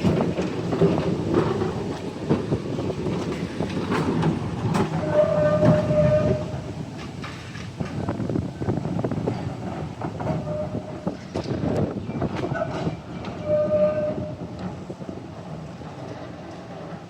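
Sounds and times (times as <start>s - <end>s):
tram rumbling on rails: 0.0s - 17.0s
wheels clicking over track: 0.0s - 17.0s.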